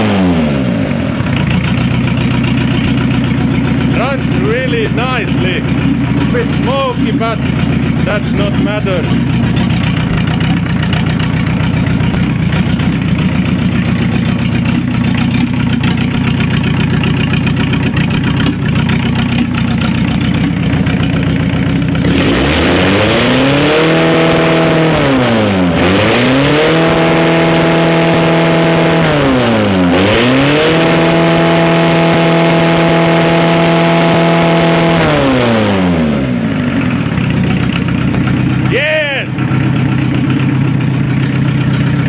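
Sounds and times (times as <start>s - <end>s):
diesel engine idling and revving: 0.0s - 42.0s.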